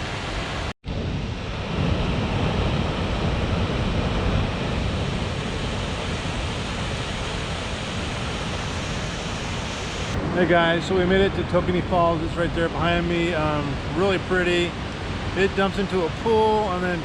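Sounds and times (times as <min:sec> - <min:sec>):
waterfall roaring: 0:00.0 - 0:00.7, 0:01.5 - 0:17.0
wind on microphone: 0:00.0 - 0:17.0.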